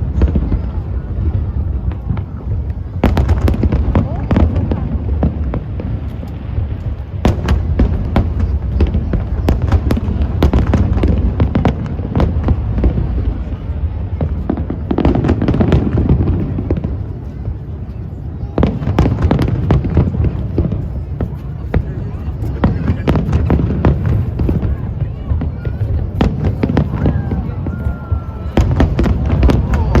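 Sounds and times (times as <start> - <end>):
fireworks booming and crackling: 0.0 - 30.0.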